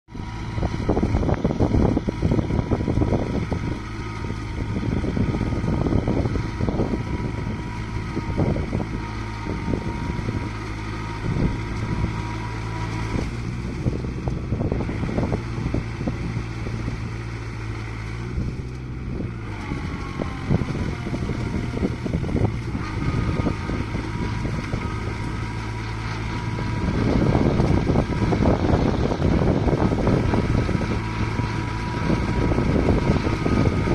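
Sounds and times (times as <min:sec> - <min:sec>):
tractor diesel engine under load: 0:00.0 - 0:33.9
wind buffeting microphone: 0:00.1 - 0:33.9.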